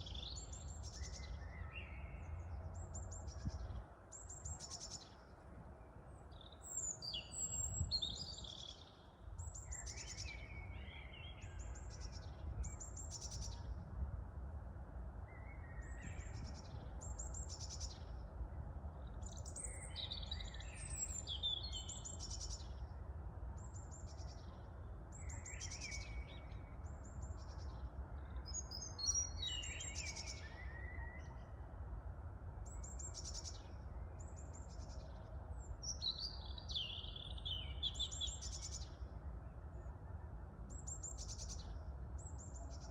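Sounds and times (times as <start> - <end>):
low wind rumble: 0.0 - 42.9.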